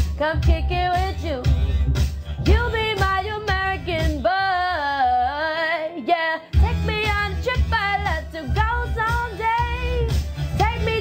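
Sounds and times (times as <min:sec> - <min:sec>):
woman singing: 0:00.0 - 0:01.6, 0:02.4 - 0:11.0
pop backing track: 0:00.0 - 0:11.0.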